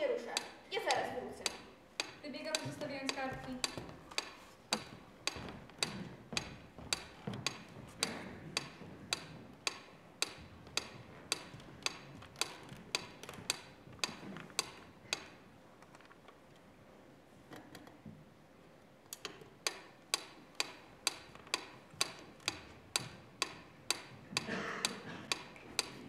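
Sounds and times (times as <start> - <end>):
clock ticking: 0.2 - 15.4, 19.2 - 26.0.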